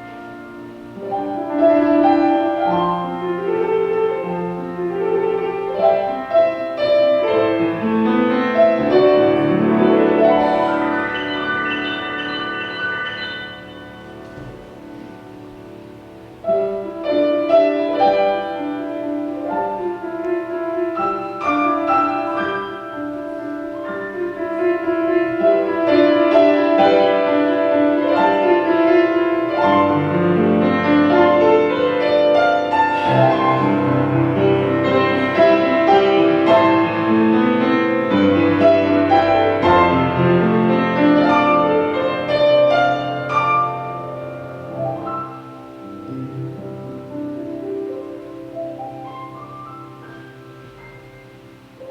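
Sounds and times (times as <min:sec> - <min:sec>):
piano music: 0:00.0 - 0:51.9.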